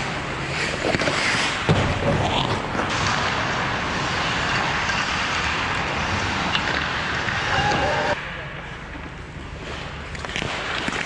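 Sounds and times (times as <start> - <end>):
skates scraping on ice: 0.0 - 8.2, 9.4 - 11.0.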